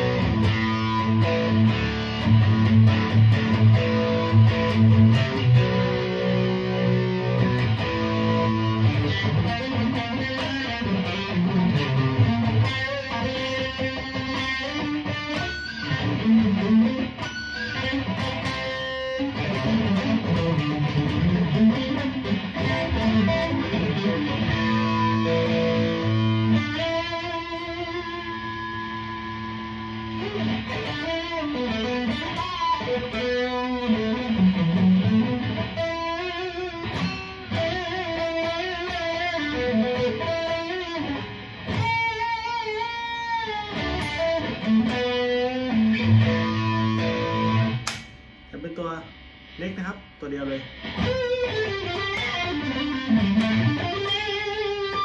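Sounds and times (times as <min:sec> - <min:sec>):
electric guitar lead line: 0:00.0 - 0:55.0.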